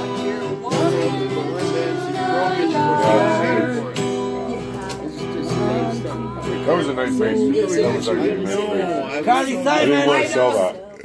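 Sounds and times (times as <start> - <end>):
acoustic guitar strumming: 0.0 - 10.8
voices singing along: 0.0 - 11.0.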